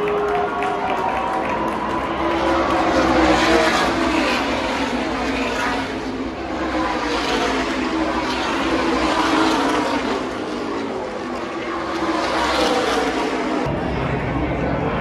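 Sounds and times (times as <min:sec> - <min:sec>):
truck engines passing by: 0:00.0 - 0:15.0.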